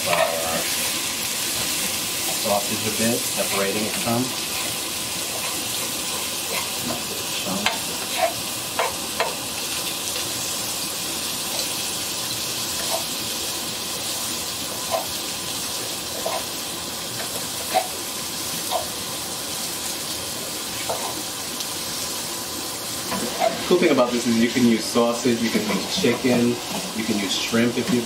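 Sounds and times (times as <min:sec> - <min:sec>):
sausage meat sizzling in pan: 0:00.0 - 0:28.0.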